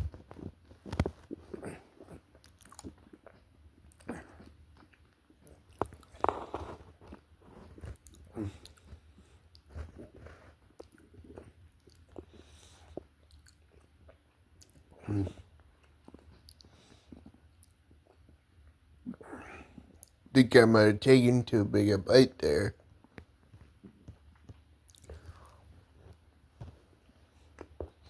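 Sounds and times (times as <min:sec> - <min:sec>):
person chewing with mouth smacks: 0:00.0 - 0:19.2, 0:22.8 - 0:28.0.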